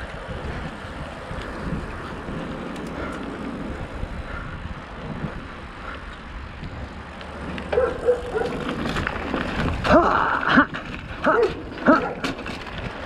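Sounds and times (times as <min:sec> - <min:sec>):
bicycle rolling: 0:00.0 - 0:13.0
wind rumbling on microphone: 0:00.0 - 0:13.0.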